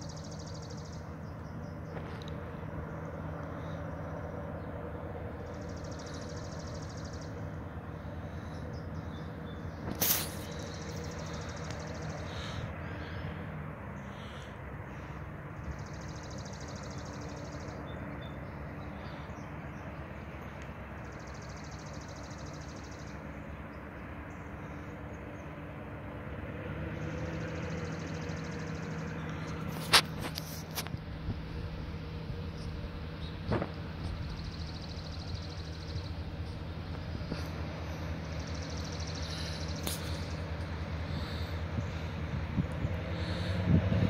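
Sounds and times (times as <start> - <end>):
birds trilling: 0.0 - 44.0
distant diesel locomotive hum: 0.0 - 44.0.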